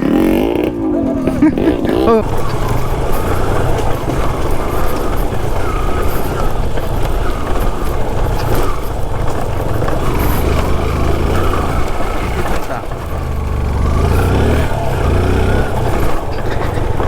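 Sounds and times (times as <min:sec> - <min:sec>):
two-stroke motorcycle engine running: 0:00.0 - 0:17.0.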